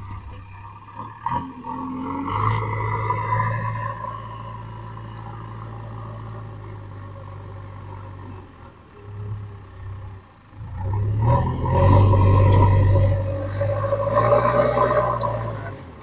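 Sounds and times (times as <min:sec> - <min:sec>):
diesel engine of backhoe loader: 0:00.0 - 0:16.0.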